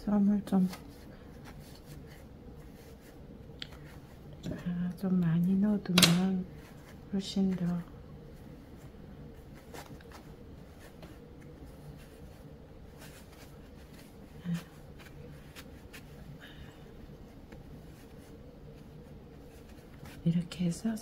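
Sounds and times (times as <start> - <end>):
faint steady hum: 0.0 - 21.0
cloth rustling and scratching: 0.4 - 4.4, 6.5 - 21.0.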